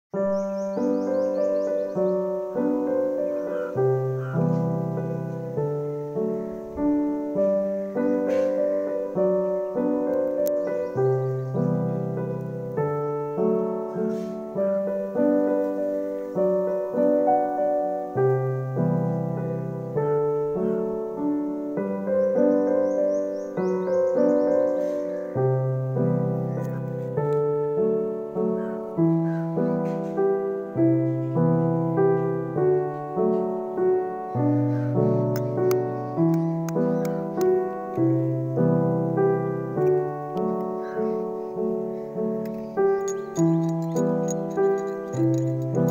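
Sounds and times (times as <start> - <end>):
gentle piano music: 0.1 - 45.9.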